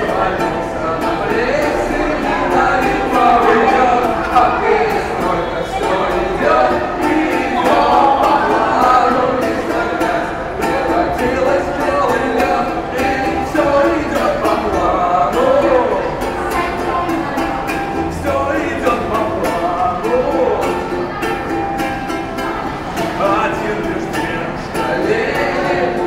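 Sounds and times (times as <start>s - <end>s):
man singing: 0.0s - 21.3s, 23.0s - 26.0s
strummed ukulele: 0.0s - 26.0s.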